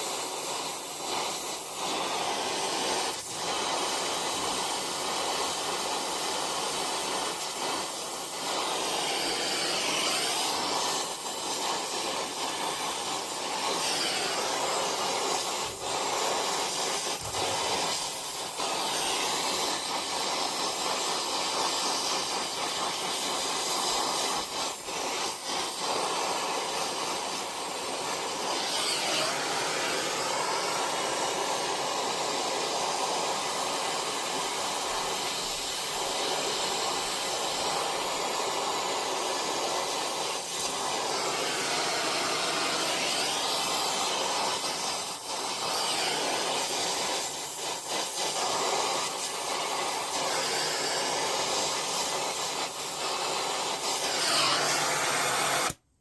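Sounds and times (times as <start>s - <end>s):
steady hissing noise: 0.0s - 56.0s.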